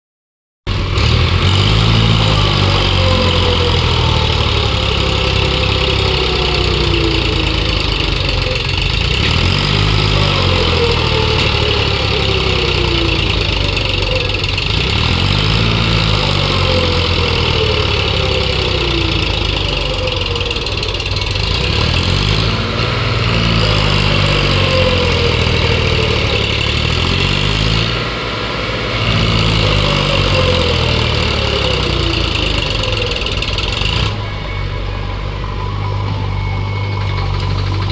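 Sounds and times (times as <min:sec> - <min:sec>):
falling whine: 0:00.7 - 0:37.9
heavy diesel engine running: 0:00.7 - 0:37.9.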